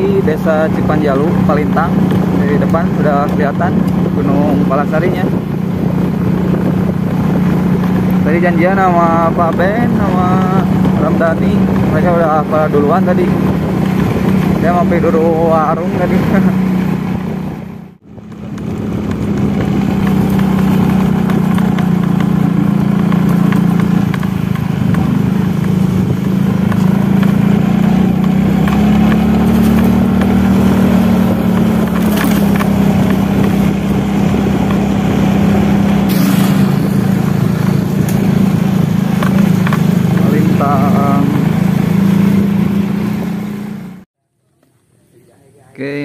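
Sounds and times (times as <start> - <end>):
motorcycle engine running: 0.0 - 44.8.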